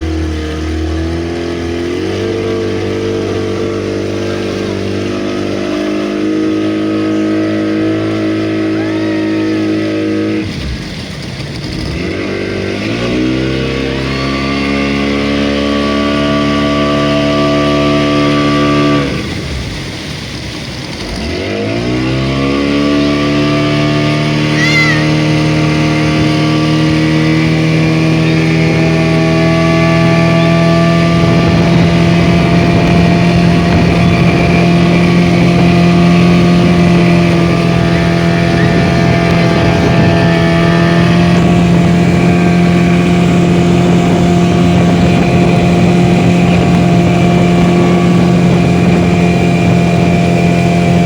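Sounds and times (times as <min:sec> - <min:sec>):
motorboat engine running: 0:00.0 - 0:51.0.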